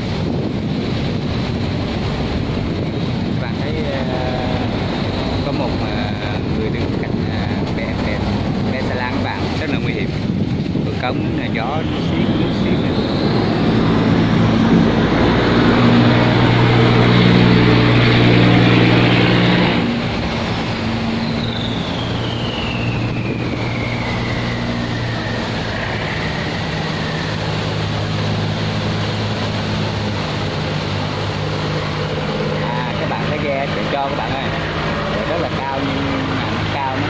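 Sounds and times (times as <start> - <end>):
boat engine passing: 0.0 - 37.0
distant boat engine: 0.0 - 37.0
high whine falling in pitch: 0.0 - 37.0
rushing water: 0.0 - 37.0.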